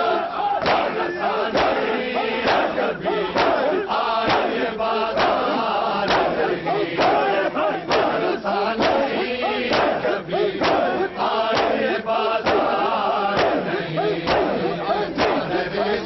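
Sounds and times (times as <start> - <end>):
men chanting in unison: 0.0 - 16.0
hands slapping on chests: 0.6 - 16.0.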